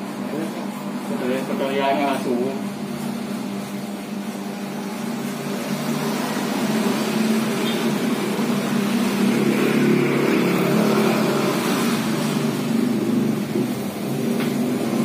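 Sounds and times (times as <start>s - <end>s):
motor engine running: 0.4s - 15.0s.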